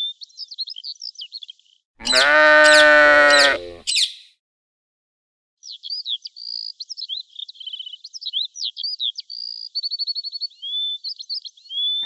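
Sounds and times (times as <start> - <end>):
songbird singing: 0.0 - 4.3, 5.6 - 12.0.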